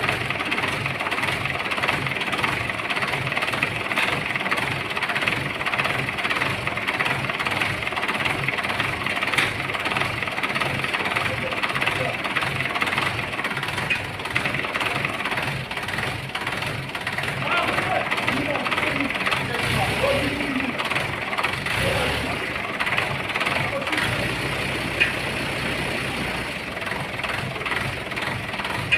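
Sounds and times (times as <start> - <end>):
engine throbbing: 0.0 - 28.9.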